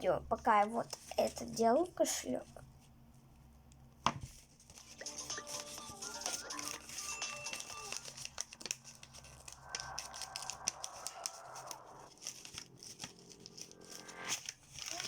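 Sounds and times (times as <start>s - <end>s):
material crinkling and rustling: 2.6s - 15.0s.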